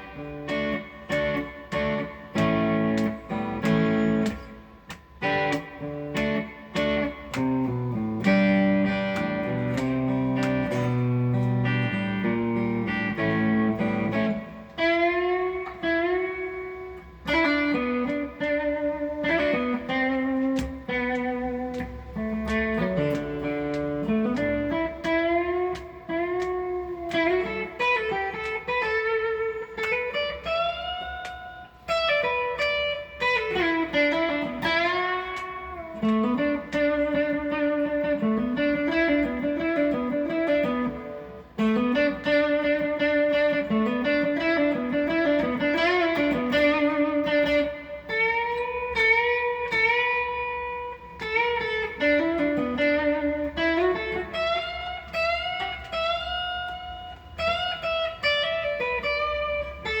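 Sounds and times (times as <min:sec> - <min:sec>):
electric guitar melody with bends: 0:00.0 - 1:00.0.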